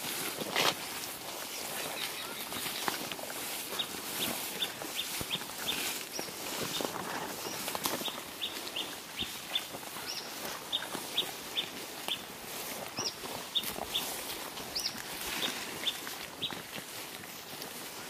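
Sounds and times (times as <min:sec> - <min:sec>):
footsteps through dry grass: 0:00.0 - 0:18.0
birds chirping: 0:01.0 - 0:17.0.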